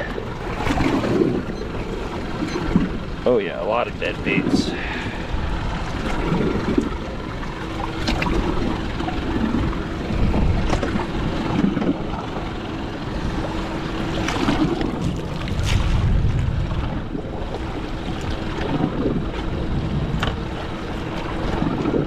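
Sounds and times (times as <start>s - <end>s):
choppy water around boat: 0.0s - 22.0s
wind buffeting microphone: 0.0s - 22.0s.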